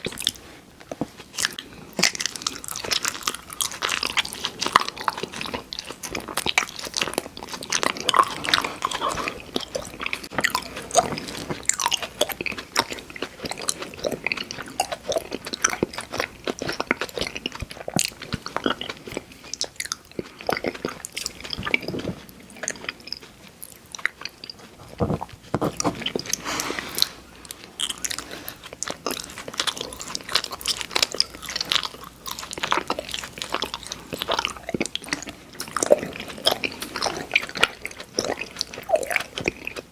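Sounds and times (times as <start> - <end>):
candy crunching: 0.0 - 39.9
sticky mouth sounds: 0.0 - 39.9.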